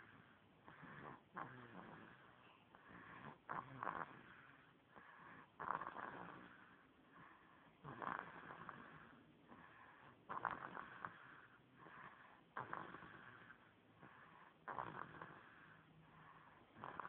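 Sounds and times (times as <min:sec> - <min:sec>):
snoring: 0:00.0 - 0:17.0
soft breaths: 0:00.0 - 0:17.0.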